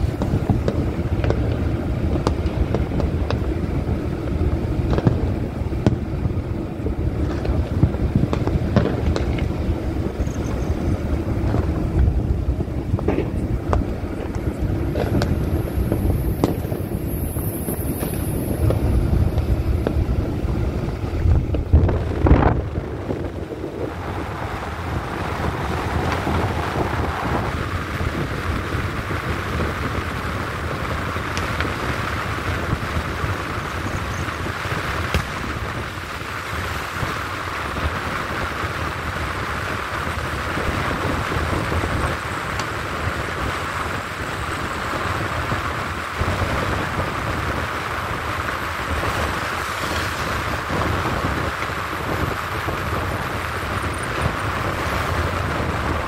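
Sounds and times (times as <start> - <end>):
high hiss: 0.0 - 21.1, 21.8 - 56.0
car road and wind rumble: 0.0 - 56.0
firecrackers cracking: 0.0 - 56.0.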